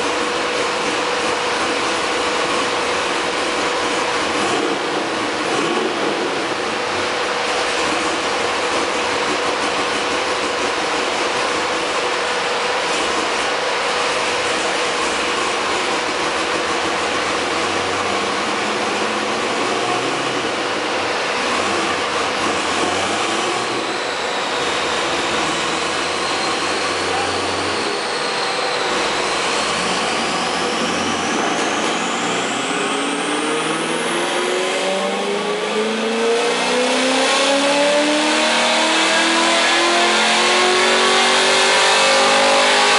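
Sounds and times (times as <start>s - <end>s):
engine revving up: 0.0s - 42.9s
engine tyres and dyno rollers: 0.0s - 42.9s
high whine rising in pitch: 0.0s - 42.9s.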